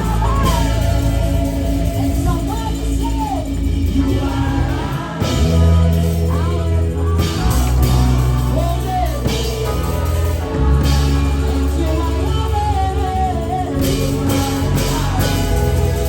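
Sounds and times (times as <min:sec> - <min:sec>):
band with bass guitar and drums: 0:00.0 - 0:16.0
person singing: 0:00.0 - 0:16.0.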